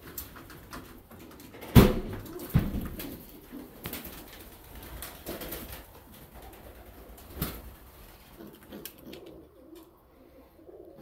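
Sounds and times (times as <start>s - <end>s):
pigeons cooing: 1.2s - 11.0s.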